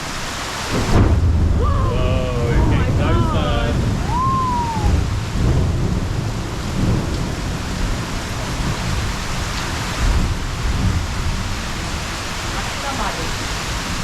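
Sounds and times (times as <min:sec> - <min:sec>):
heavy rain pouring: 0:00.0 - 0:14.0
thunder rumbling: 0:00.5 - 0:14.0.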